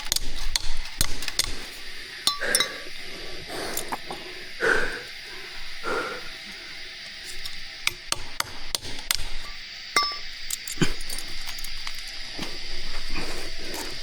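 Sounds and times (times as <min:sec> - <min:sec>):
steady high hiss: 0:00.0 - 0:14.0.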